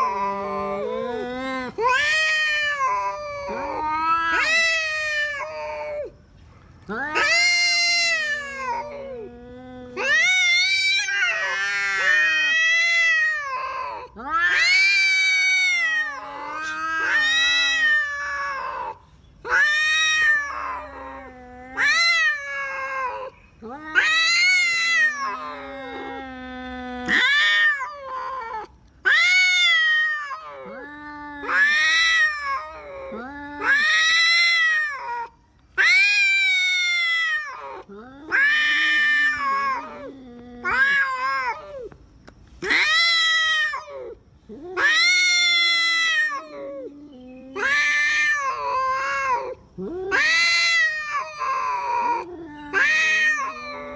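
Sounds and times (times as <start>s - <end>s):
cat low drawn-out moan: 0.0s - 6.2s, 6.8s - 35.4s, 37.2s - 42.0s, 43.6s - 53.9s
cats yowling: 0.0s - 53.9s.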